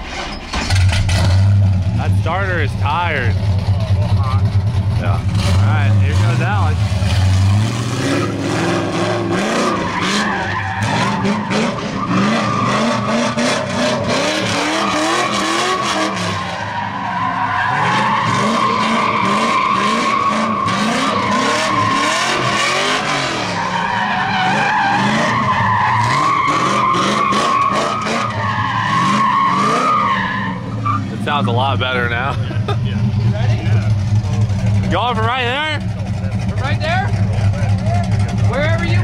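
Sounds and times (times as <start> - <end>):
car engine revving: 0.0 - 39.0
tyres squealing and skidding: 0.0 - 39.0.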